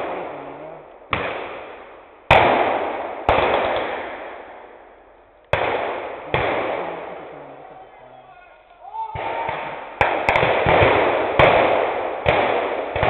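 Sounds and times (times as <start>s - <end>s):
rifle gunshots with echo: 0.0s - 7.8s, 9.1s - 13.0s.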